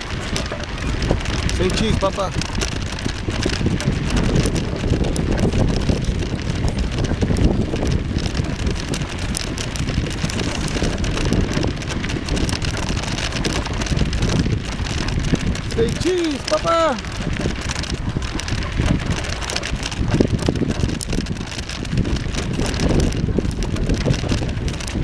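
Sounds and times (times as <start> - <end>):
bicycle rumbling and rattling: 0.0 - 25.0
wind buffeting microphone: 0.0 - 25.0.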